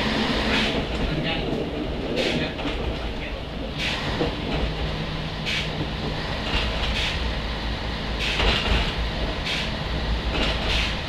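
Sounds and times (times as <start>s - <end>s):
diesel railcar engine drone: 0.0s - 11.0s
wheels rumbling on rails: 0.0s - 11.0s.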